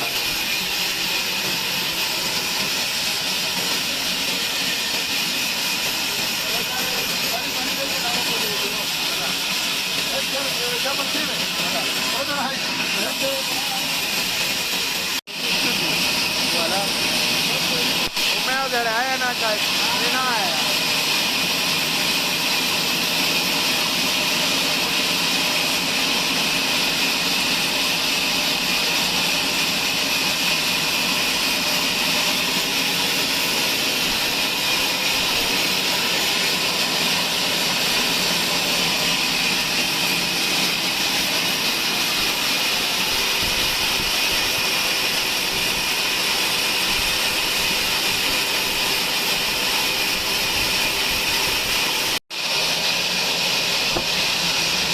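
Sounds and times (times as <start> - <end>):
band saw running: 0.0 - 54.9.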